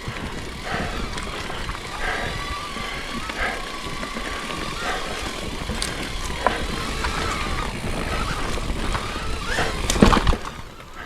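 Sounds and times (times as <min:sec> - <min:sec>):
bike clicks and rattles: 0:00.0 - 0:11.0
bike tyres rushing on dirt: 0:00.0 - 0:11.0.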